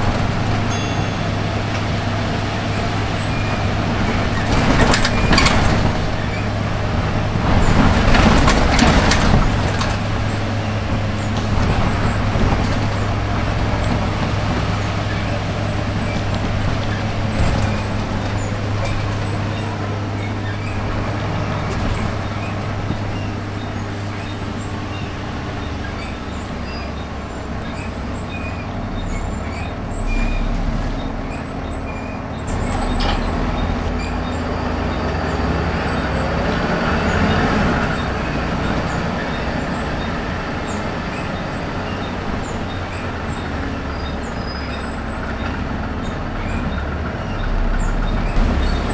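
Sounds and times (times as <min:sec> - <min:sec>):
bus diesel engine drone: 0:00.0 - 0:48.9
road noise: 0:00.0 - 0:48.9.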